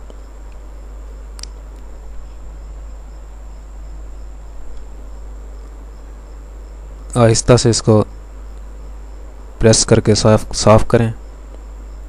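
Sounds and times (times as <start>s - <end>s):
electrical hum and hiss: 0.0s - 12.0s
faint pulsing chirp: 0.0s - 12.0s.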